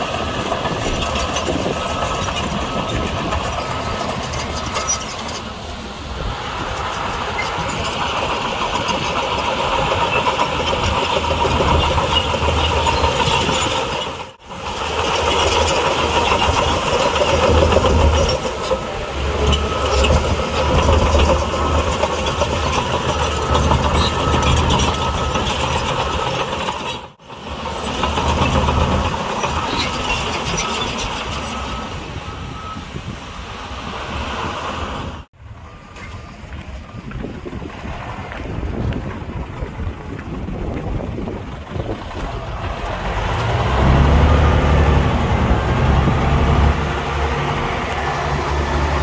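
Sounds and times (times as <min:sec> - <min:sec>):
bulldozer diesel engine rumbling: 0:00.0 - 0:49.0.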